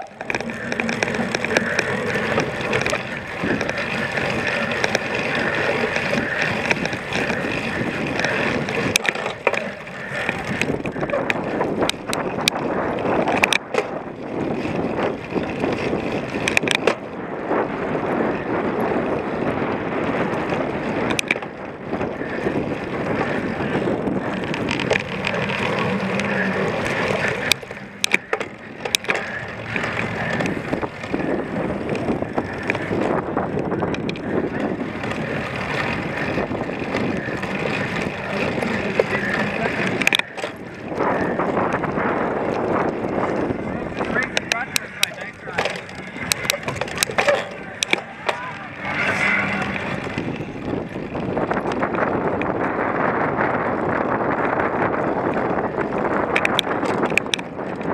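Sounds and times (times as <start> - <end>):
bike tyres rumbling and rattling: 0.0 - 57.9.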